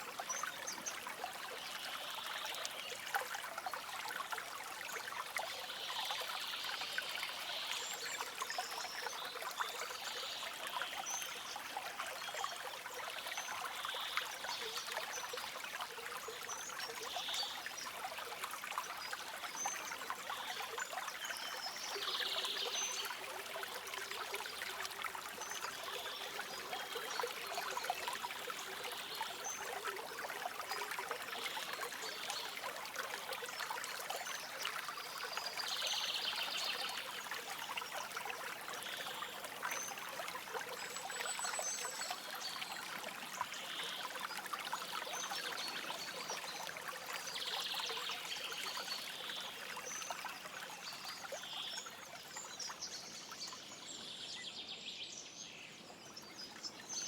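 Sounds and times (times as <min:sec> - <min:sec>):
stream trickling and babbling: 0:00.0 - 0:57.0.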